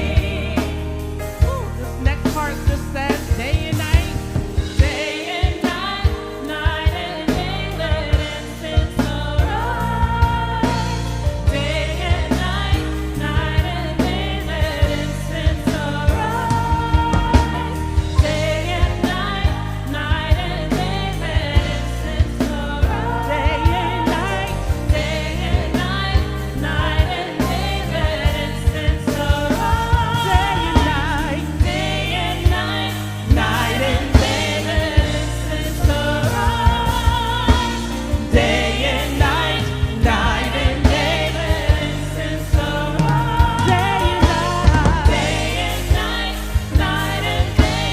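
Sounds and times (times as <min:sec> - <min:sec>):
band with bass and drums: 0:00.0 - 0:47.9
singers with choir backing: 0:00.0 - 0:47.9.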